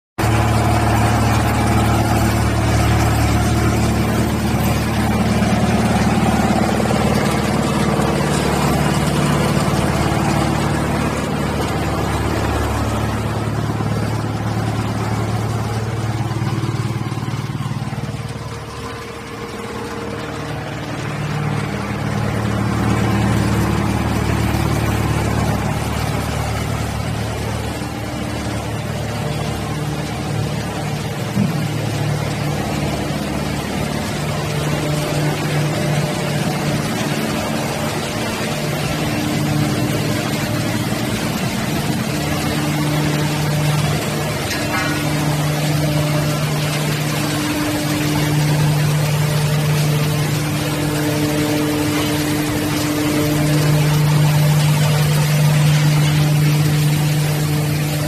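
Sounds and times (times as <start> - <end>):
wood chipper machinery drone: 0.2 - 58.0.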